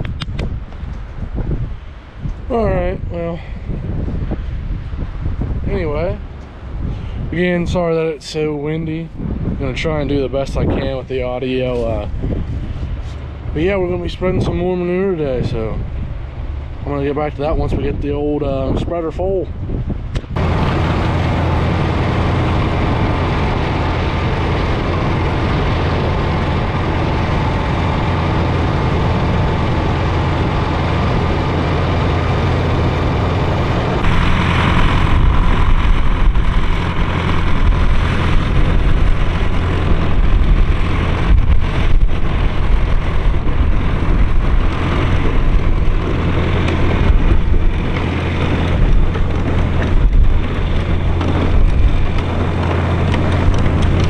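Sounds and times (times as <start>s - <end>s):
vehicle engine running: 0.0s - 54.0s
wind buffeting microphone: 0.0s - 54.0s.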